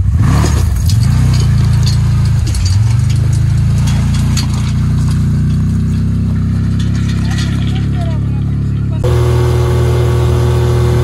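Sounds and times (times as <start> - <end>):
utility vehicle engine idling: 0.0 - 11.0.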